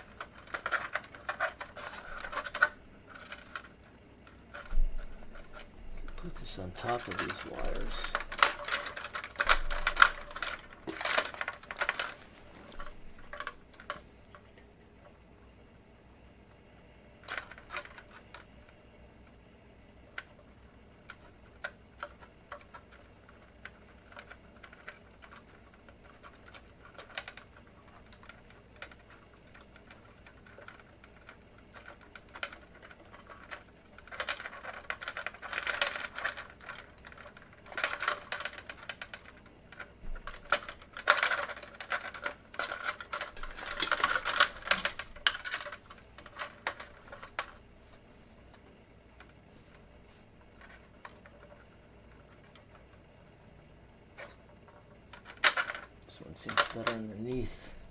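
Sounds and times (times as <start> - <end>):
rattling and crinkling: 0.0 - 15.2, 17.2 - 19.4, 20.1 - 57.9
wires and parts clicking: 0.0 - 15.2, 16.5 - 19.4, 20.0 - 57.9.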